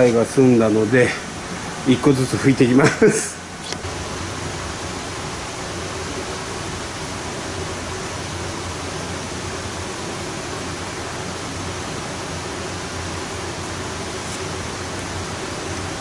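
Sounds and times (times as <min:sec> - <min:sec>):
electric fan rushing: 0:00.0 - 0:16.0.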